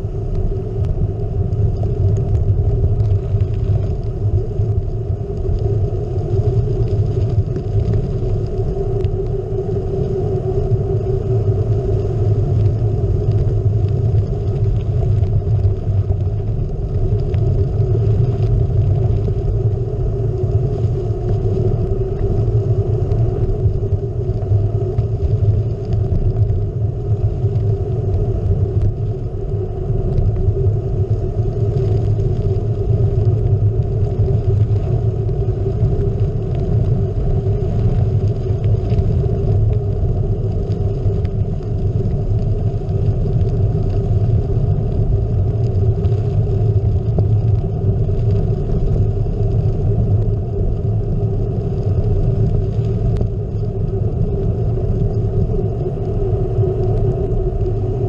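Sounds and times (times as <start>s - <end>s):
bike tyres rolling on gravel: 0.0s - 58.0s.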